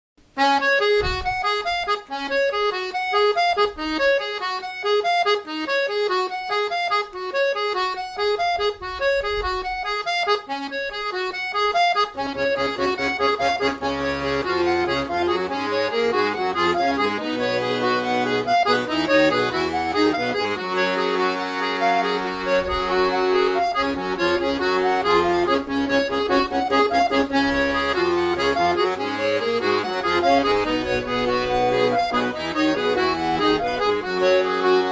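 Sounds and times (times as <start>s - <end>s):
accordion playing a tune: 0.2s - 34.9s.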